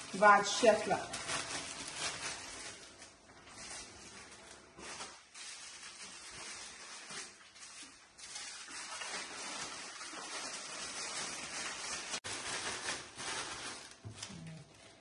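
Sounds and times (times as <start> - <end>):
cellophane crinkling and rustling: 0.0 - 15.0.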